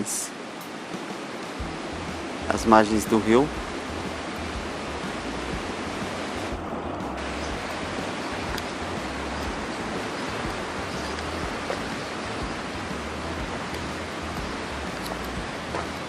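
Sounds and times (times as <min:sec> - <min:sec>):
river rushing: 0:00.0 - 0:16.0
low uneven rumbling: 0:01.6 - 0:16.0.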